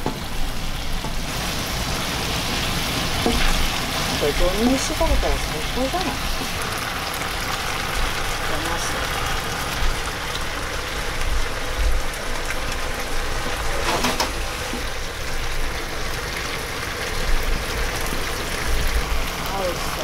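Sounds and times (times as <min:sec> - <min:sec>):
stir-fry sizzling in a frying pan: 0:00.0 - 0:20.0.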